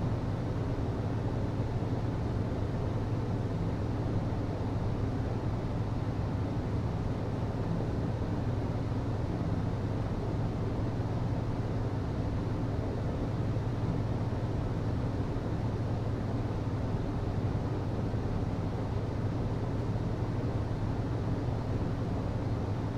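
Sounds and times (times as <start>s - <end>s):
ventilation system hum: 0.0s - 22.9s.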